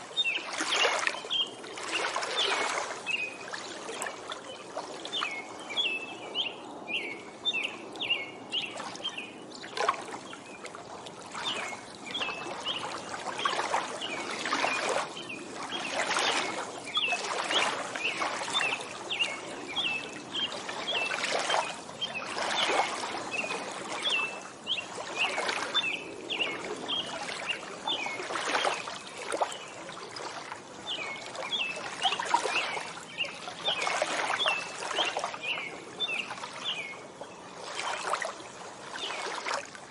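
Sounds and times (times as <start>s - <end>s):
water lapping at shore: 0.0s - 39.9s
songbird chirping: 0.1s - 10.7s, 11.4s - 29.9s, 30.9s - 38.2s.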